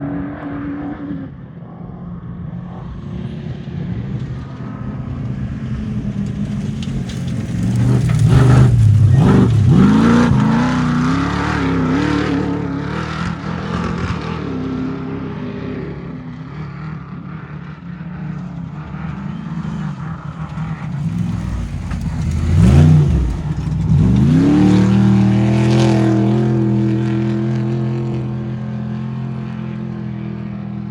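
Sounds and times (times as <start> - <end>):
truck engines accelerating: 0.0 - 30.9.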